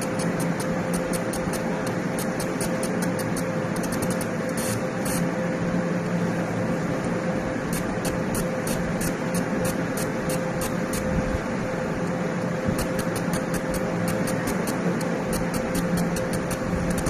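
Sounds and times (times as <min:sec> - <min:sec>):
machine fan whirring and humming: 0:00.0 - 0:17.0.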